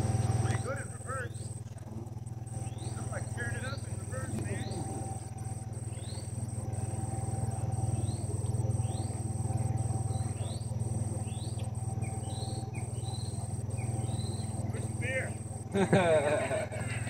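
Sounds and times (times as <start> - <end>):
high insect drone: 0.0 - 17.0
low hum: 0.0 - 17.0
bird chirping: 0.4 - 16.1.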